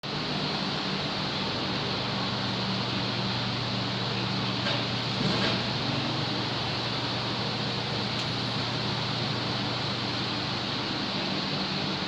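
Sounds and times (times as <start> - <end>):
steady machine hum: 0.1 - 12.0.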